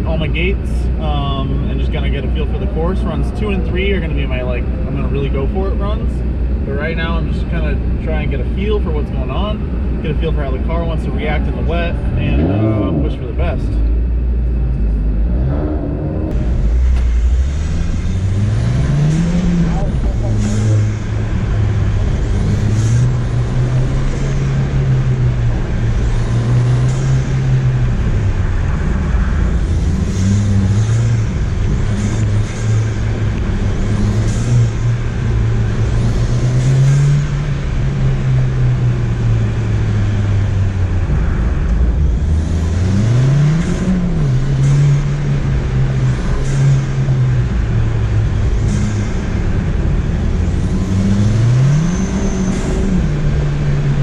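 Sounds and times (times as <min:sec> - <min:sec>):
turbocharged car engine revving: 0:00.0 - 0:54.0.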